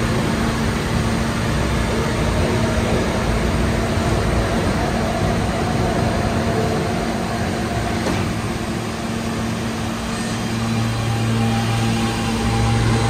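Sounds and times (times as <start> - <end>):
subway train humming: 0.0 - 13.0.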